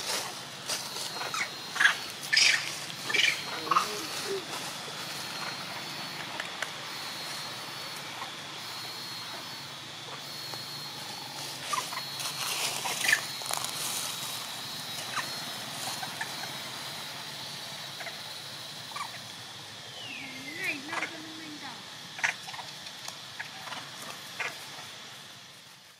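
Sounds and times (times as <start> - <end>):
steady high whine: 0.0 - 25.9.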